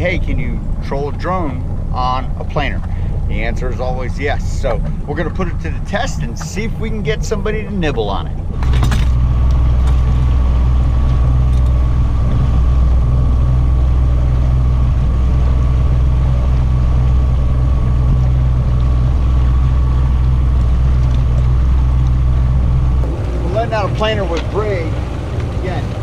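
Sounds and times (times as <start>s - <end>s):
outboard motor drone: 0.0s - 26.0s.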